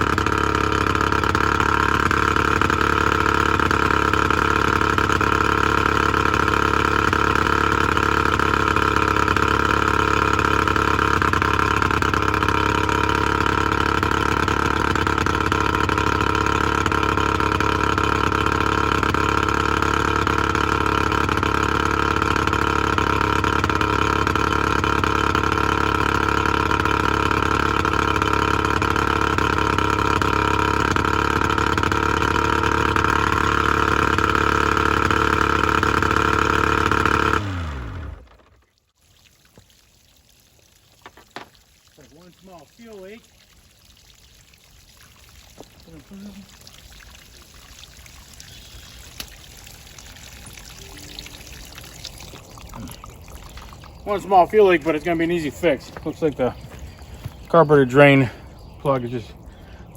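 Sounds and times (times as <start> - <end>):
outboard motor idling: 0.0 - 59.9.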